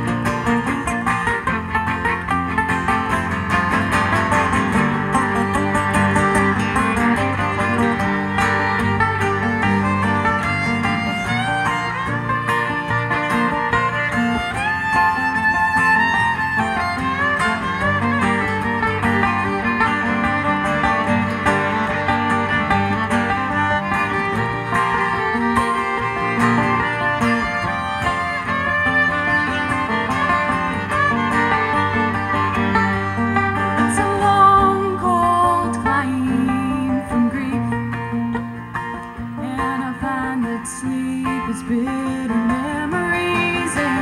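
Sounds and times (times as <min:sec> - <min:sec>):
fiddle melody with gliding notes: 0:00.0 - 0:44.0
strummed guitar: 0:00.0 - 0:44.0.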